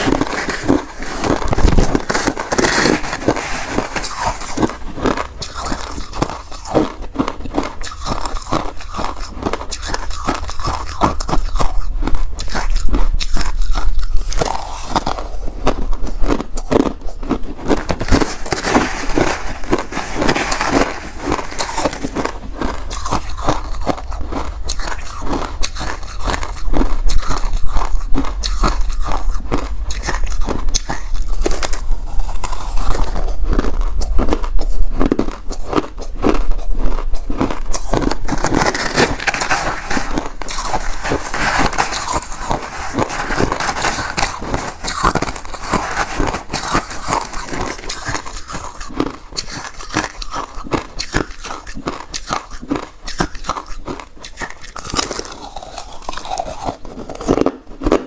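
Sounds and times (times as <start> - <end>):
chewing crushed ice: 0.0 - 58.0.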